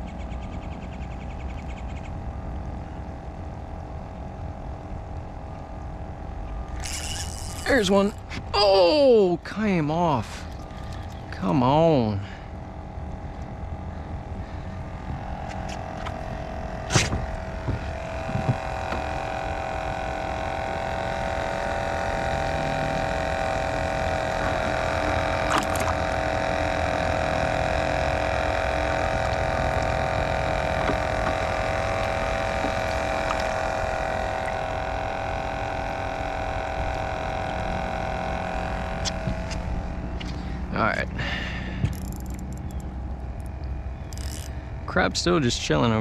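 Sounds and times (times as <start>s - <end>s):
aerator pump humming: 0.0s - 46.0s.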